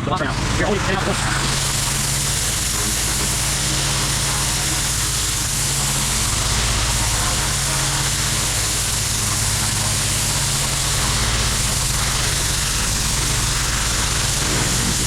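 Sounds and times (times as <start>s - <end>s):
high-pressure water spraying: 0.0s - 15.0s
pressure washer engine running: 0.0s - 15.0s.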